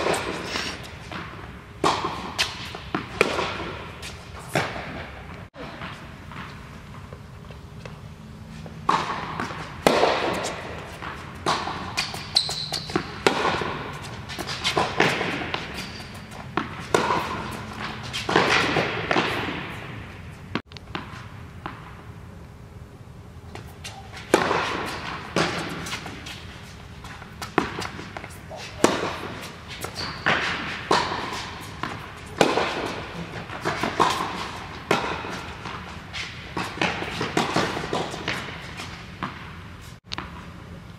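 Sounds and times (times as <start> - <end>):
racquet striking tennis ball: 1.1 - 6.5, 8.8 - 22.0, 23.6 - 40.4
tennis ball bouncing: 1.1 - 8.0, 8.8 - 22.0, 23.5 - 40.4.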